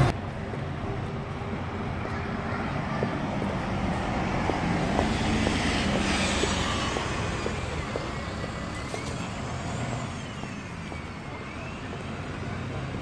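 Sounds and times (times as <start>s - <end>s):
bus engine and tyres passing: 0.0s - 13.0s.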